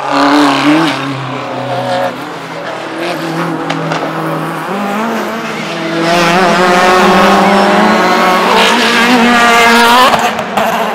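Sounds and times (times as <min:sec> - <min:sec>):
racing car engines revving: 0:00.0 - 0:10.9.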